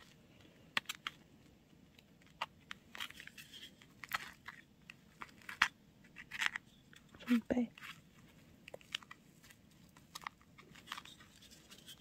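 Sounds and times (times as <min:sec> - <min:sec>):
paper squishy crinkling: 0:00.0 - 0:12.0
small clicks and rustles: 0:00.0 - 0:12.0.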